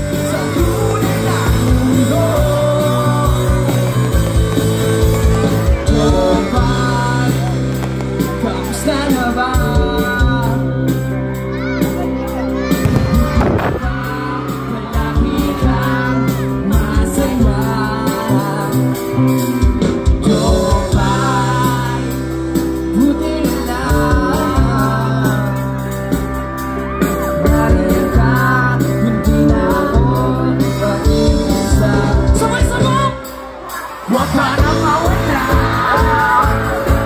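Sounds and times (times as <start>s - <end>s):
lead singer: 0.0s - 37.0s
live band playing: 0.0s - 37.0s.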